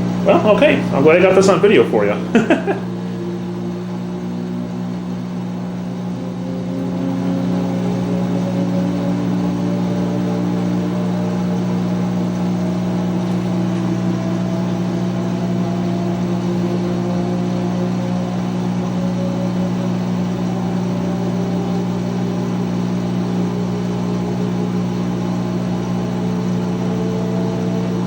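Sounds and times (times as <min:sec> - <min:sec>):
washing machine motor hum and whine: 0:00.0 - 0:28.0.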